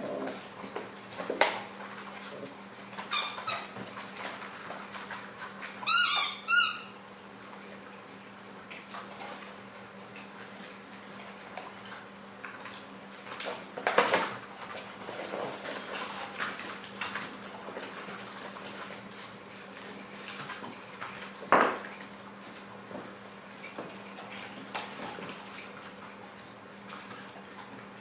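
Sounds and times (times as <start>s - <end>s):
puppies playing clatter: 0.0s - 6.9s, 7.5s - 28.0s.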